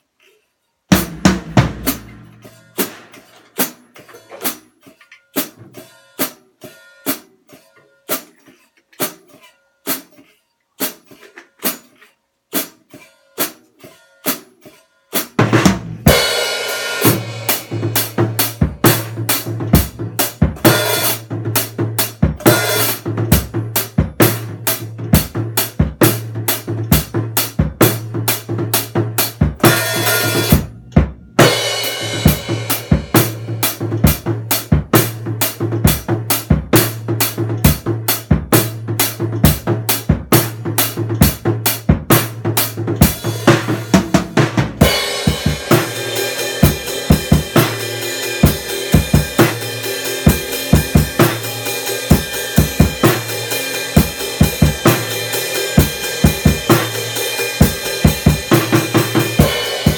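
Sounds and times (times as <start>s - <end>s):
acoustic drum kit groove: 0.0s - 59.9s.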